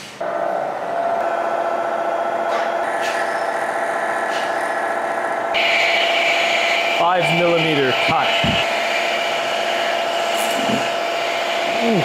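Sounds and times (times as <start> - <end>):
milling machine whine: 0.2 - 12.0.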